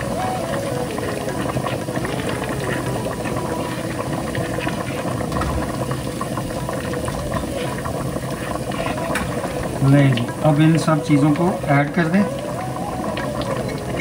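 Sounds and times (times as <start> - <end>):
chickpeas bubbling at a boil: 0.0 - 14.0
spices sizzling in oil: 0.0 - 14.0.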